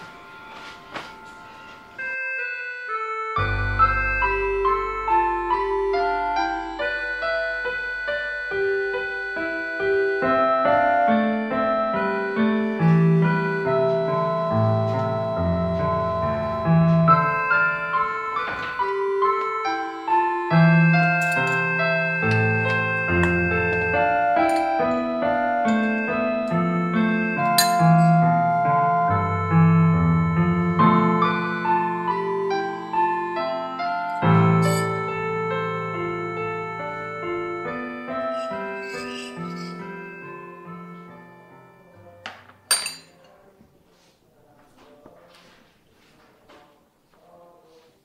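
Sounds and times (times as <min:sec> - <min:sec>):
piano music: 0:00.0 - 0:43.6.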